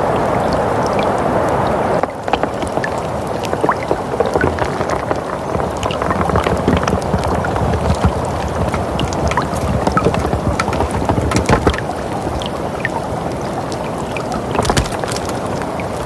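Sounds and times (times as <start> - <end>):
wind rumbling: 0.0 - 16.0
small crackles and pops: 2.0 - 16.0.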